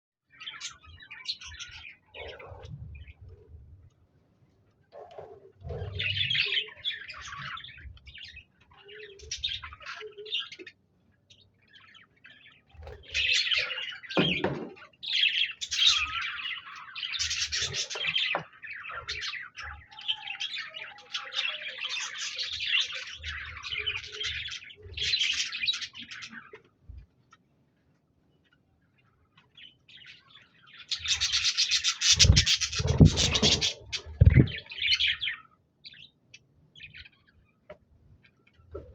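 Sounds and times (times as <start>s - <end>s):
budgerigars chirping and warbling: 0.3s - 3.4s, 5.0s - 26.8s, 28.4s - 38.9s.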